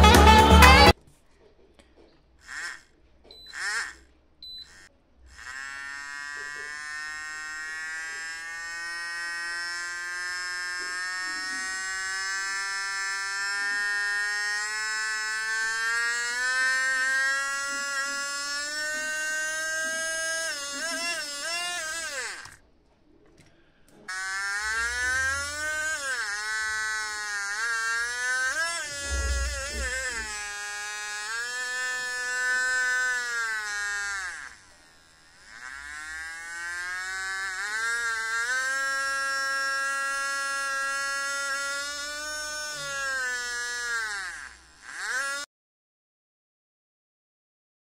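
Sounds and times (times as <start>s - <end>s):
small electric motor whining: 2.4s - 22.6s, 24.0s - 45.5s.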